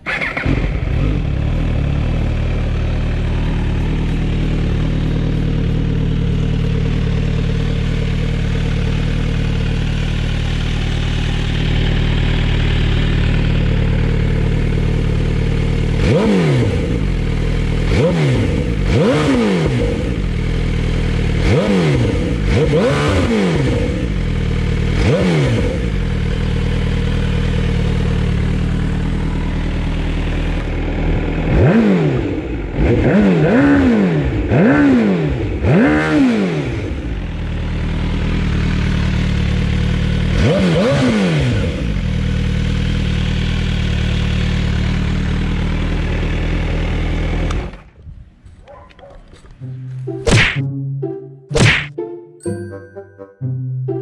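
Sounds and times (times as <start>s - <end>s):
motorcycle engine idling and revving: 0.0s - 50.2s.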